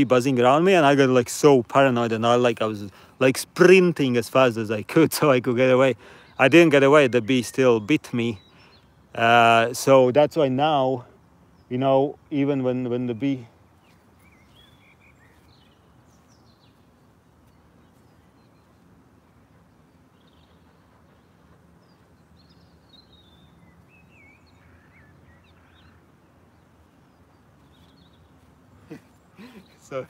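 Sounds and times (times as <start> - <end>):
birds chirping and warbling: 0.0 - 30.0
low steady background hum: 0.0 - 30.0.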